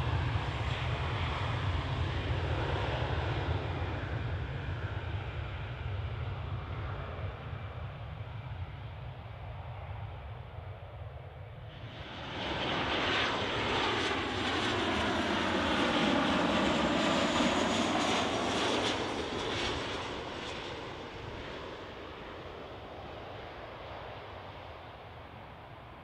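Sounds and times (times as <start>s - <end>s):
airliner engine passing by: 0.0s - 26.0s.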